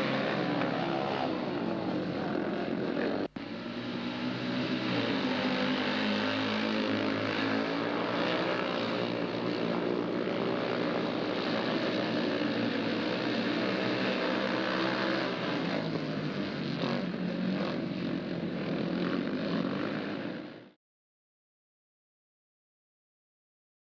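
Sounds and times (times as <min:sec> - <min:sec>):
motorcycles racing: 0:00.0 - 0:20.8.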